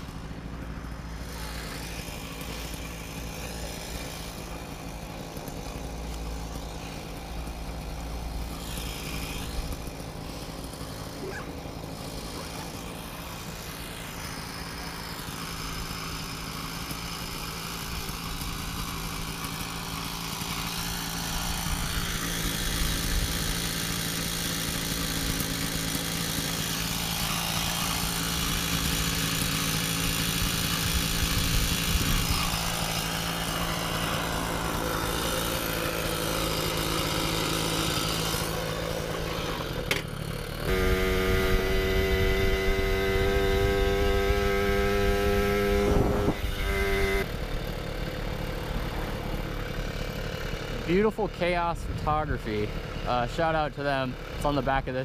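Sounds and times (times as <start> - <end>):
moped two-stroke engine running: 0.0 - 55.0
steady engine hum: 0.0 - 55.0.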